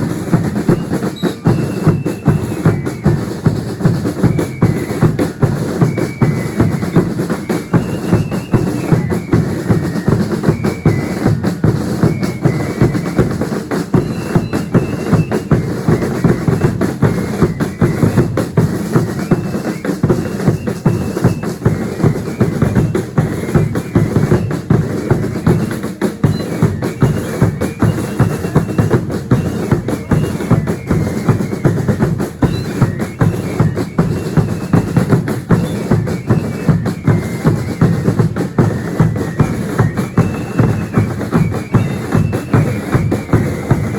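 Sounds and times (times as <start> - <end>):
bass and snare drums beating: 0.0 - 43.9.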